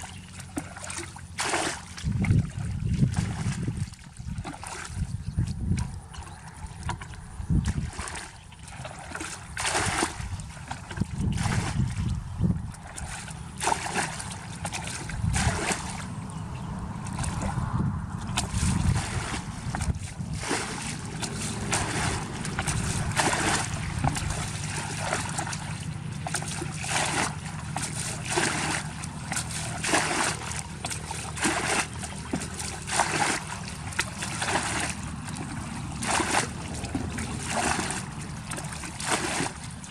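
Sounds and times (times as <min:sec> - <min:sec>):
water splashing and sloshing: 0:00.0 - 0:39.9
steady low rumble: 0:01.9 - 0:39.9.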